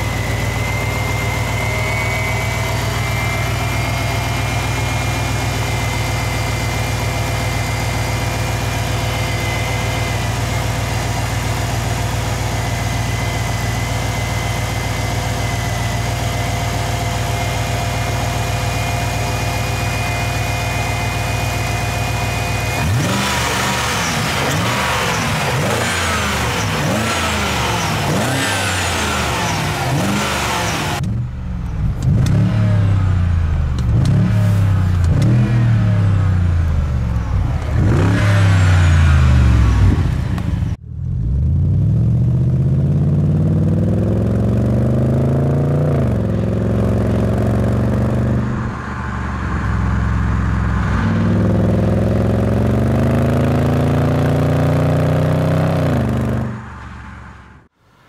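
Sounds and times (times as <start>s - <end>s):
car engine accelerating hard: 0.0s - 31.2s, 31.8s - 57.7s
car engine revving: 0.0s - 57.7s.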